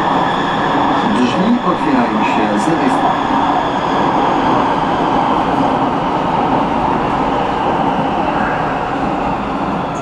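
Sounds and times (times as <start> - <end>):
metro train rumbling: 0.0 - 10.0.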